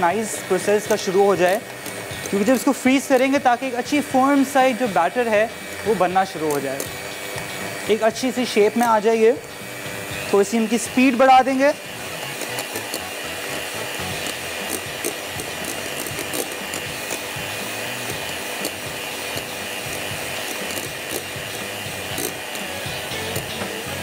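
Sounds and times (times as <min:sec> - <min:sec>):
electric hand mixer whipping cream: 0:00.0 - 0:24.0.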